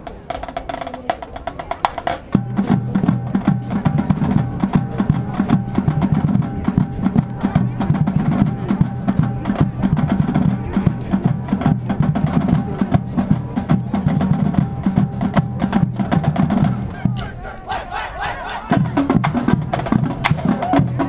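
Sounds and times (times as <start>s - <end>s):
bass drums: 0.0s - 17.4s, 18.7s - 21.0s
marching drumline playing: 0.0s - 21.0s.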